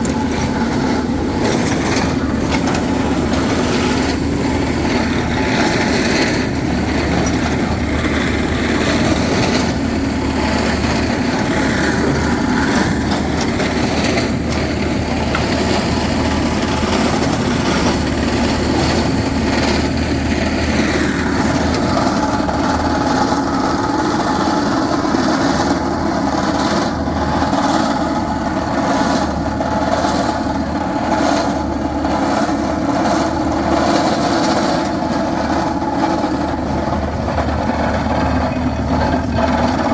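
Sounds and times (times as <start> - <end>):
drilling rig machine hum: 0.0 - 39.9.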